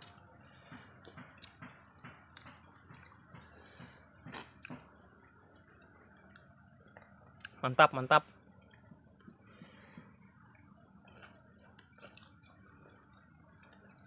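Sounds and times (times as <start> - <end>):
people eating with wet smacks: 0.0 - 7.6, 8.5 - 14.0.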